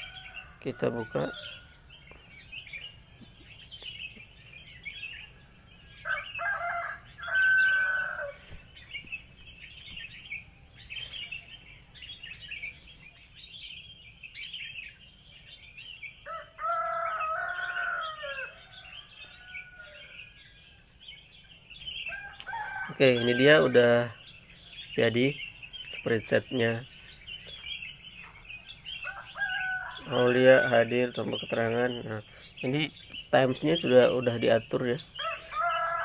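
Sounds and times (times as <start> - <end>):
long pitched bird call: 0.0 - 36.0
small birds chirping: 0.0 - 36.0.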